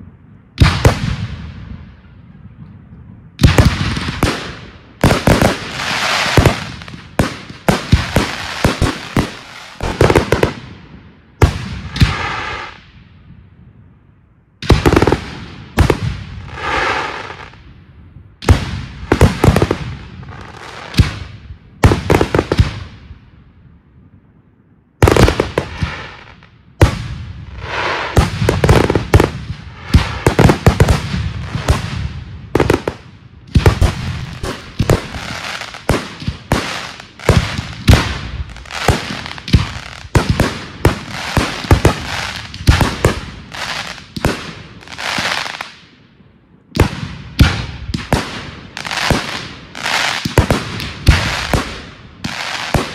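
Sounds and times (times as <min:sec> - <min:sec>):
fireworks bangs and crackling: 0:00.0 - 0:13.8, 0:14.6 - 0:23.6, 0:25.0 - 0:52.9.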